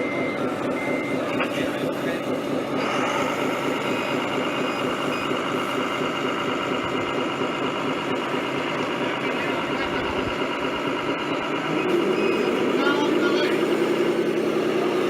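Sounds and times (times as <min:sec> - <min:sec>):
toy truck motors running: 0:00.0 - 0:15.0.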